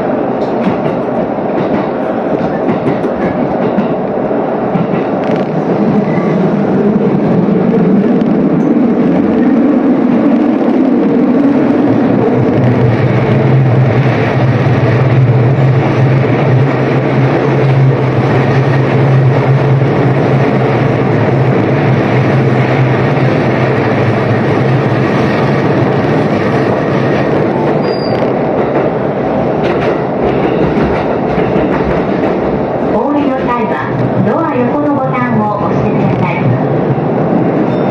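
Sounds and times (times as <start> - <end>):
train wheels rushing on rails: 0.0 - 37.9.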